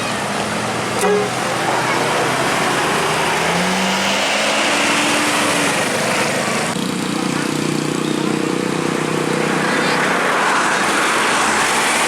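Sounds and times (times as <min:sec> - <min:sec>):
road noise rushing: 0:00.0 - 0:12.0
vehicle engine accelerating: 0:00.1 - 0:12.0.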